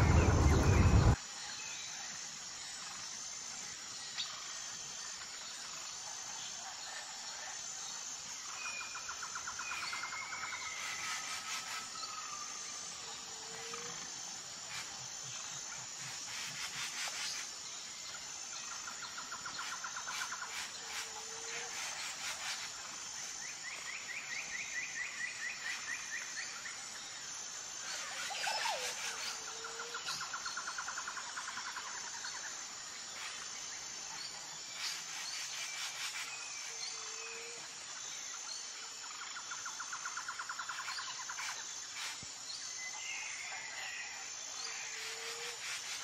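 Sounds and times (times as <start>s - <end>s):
steady outdoor hiss: 0.0s - 46.0s.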